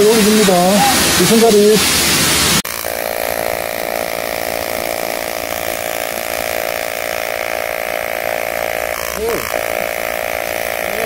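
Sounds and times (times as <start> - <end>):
loud hiss: 0.0 - 11.0
welding arc buzzing: 0.0 - 11.0.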